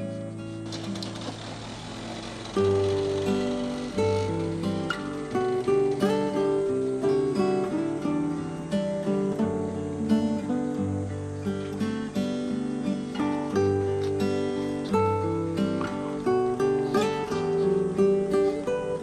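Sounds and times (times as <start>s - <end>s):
acoustic guitar melody: 0.0s - 19.0s.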